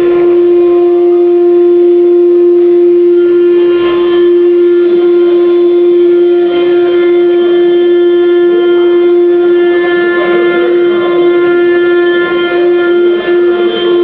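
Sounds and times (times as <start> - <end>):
router spindle high whine: 0.0 - 14.0.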